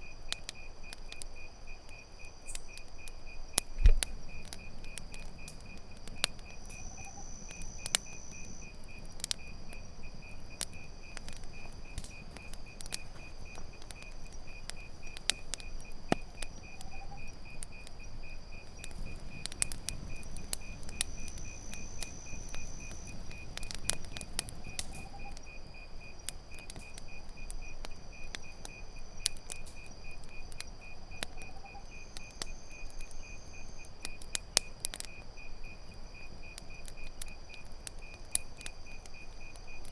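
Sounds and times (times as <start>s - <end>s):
campfire crackling and popping: 0.0s - 39.9s
crickets chirping: 0.0s - 39.9s
high insect drone: 0.0s - 39.9s.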